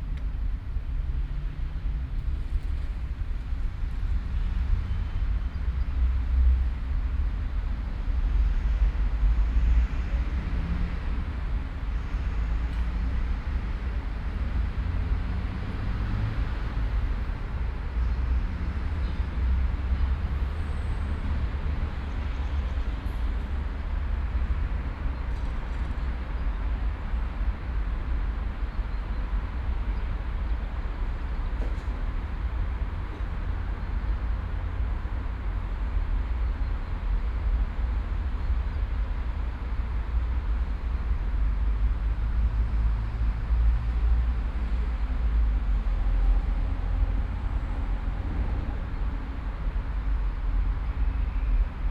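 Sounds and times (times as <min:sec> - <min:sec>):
low rumble of road traffic: 0:00.0 - 0:51.9.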